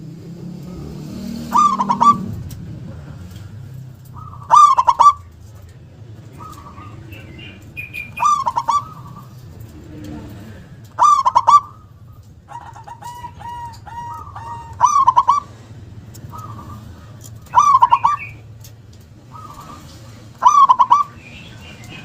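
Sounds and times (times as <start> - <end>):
dove cooing trill: 0.0 - 5.6, 6.2 - 9.8, 10.9 - 22.0.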